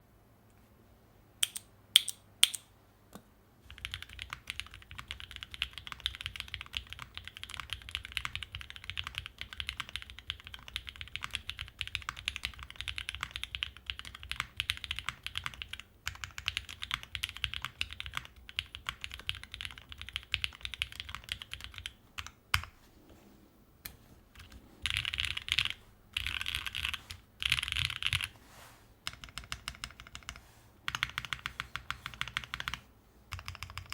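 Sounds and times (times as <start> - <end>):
mechanical keyboard typing: 3.7 - 22.7, 24.4 - 28.3, 29.0 - 33.9.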